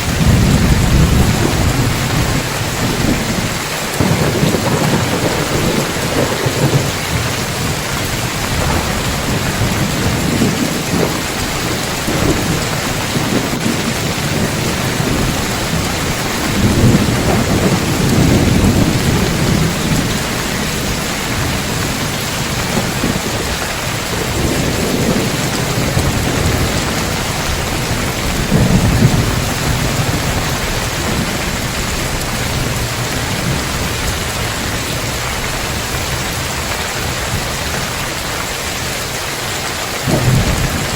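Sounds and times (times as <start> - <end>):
heavy rain on roof tiles: 0.0 - 40.9
thunder rumbling: 0.0 - 40.9.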